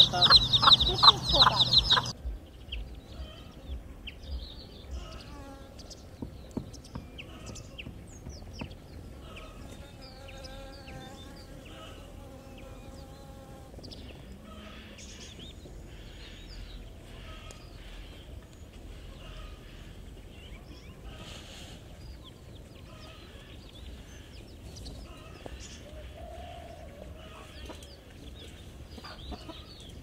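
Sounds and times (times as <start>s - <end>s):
chicks peeping loudly: 0.0s - 30.0s.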